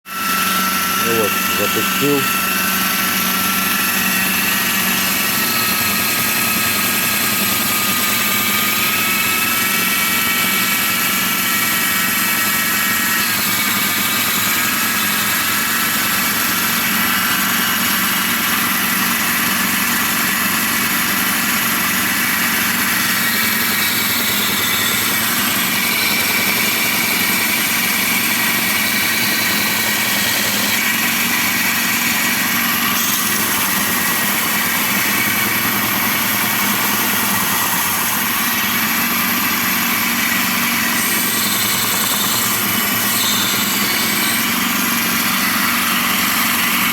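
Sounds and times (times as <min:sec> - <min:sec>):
belt grinder whining: 0:00.1 - 0:46.9.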